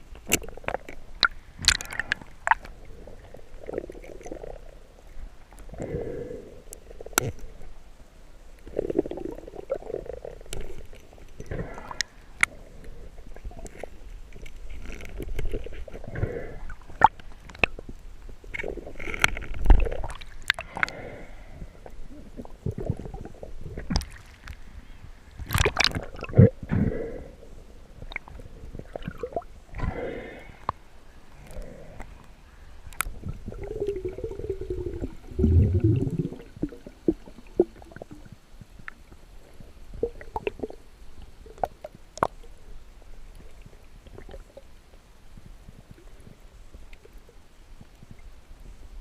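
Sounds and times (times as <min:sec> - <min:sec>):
water sloshing and gurgling: 0:00.0 - 0:07.8, 0:08.6 - 0:46.4.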